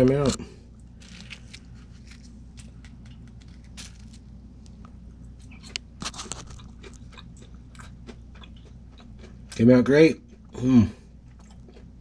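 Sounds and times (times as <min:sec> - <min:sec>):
steady low hum: 0:00.0 - 0:12.0
crunching and chewing fried food: 0:00.2 - 0:12.0.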